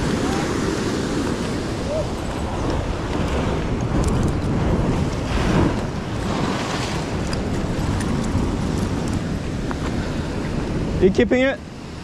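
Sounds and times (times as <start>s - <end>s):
surf washing against rocks: 0.0s - 12.0s
wind rumbling on microphone: 0.0s - 12.0s.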